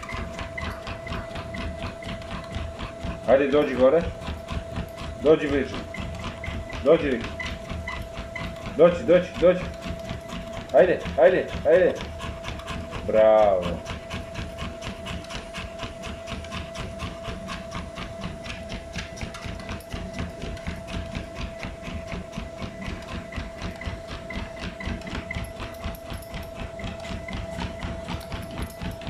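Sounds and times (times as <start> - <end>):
dog panting: 0.0 - 29.0
dog paws pattering on belt: 0.0 - 29.0
treadmill motor whine: 0.0 - 29.0.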